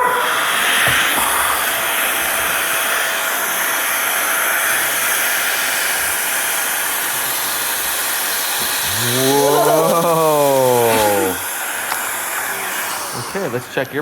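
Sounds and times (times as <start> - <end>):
air blower rushing: 0.0 - 14.0.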